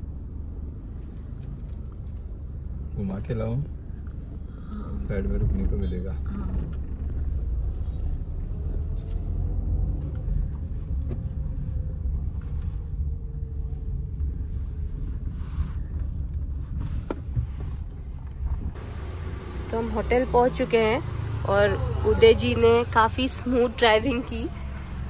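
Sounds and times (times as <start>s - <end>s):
car engine rumble: 0.0s - 25.0s
road noise inside car: 0.0s - 25.0s.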